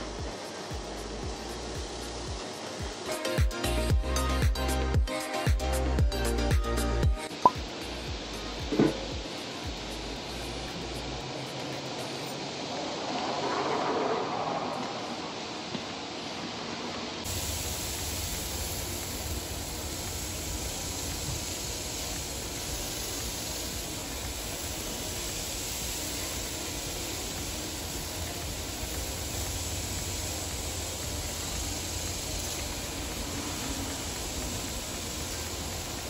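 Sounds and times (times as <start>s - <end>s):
chicken sizzling on a grill: 0.0s - 14.1s, 17.2s - 36.0s.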